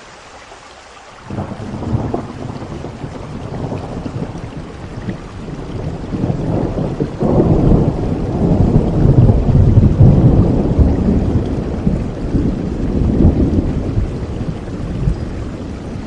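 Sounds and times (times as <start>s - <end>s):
steady rain: 0.0s - 16.0s
rolling thunder: 1.3s - 16.0s.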